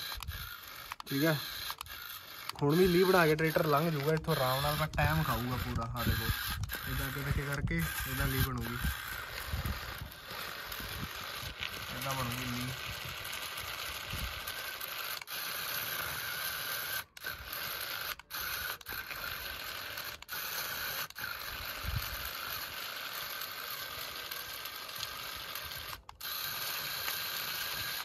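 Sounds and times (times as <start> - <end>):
small electric motor whirring: 0.0 - 28.0.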